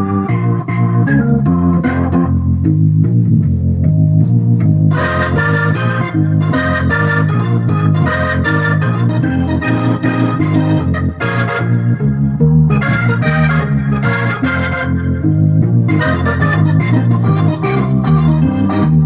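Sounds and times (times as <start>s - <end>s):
blues organ groove: 0.0s - 19.0s
bright organ chords: 0.0s - 19.0s.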